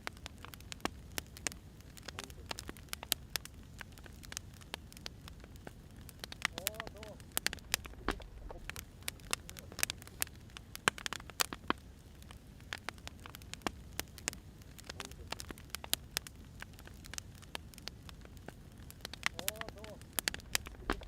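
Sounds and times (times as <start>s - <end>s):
firewood crackling and popping: 0.0s - 21.0s
low rumble of fire: 0.0s - 21.0s.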